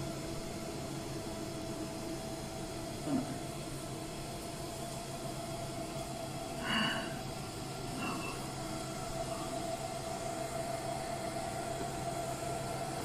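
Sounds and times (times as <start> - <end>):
laser cleaning machine humming: 0.0 - 13.0.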